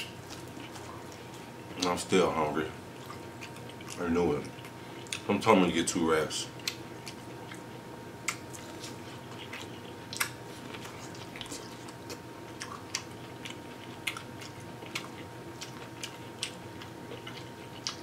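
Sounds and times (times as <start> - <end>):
chewing corn on the cob: 0.0 - 2.0, 3.0 - 5.3, 6.6 - 18.0.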